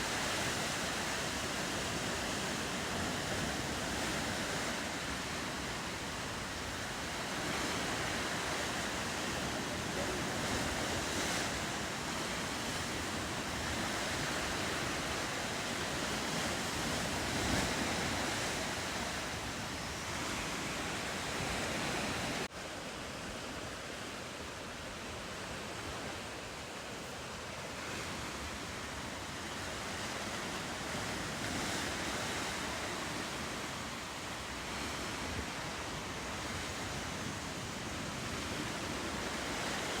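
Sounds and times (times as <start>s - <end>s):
ocean waves and surf washing: 0.0s - 40.0s.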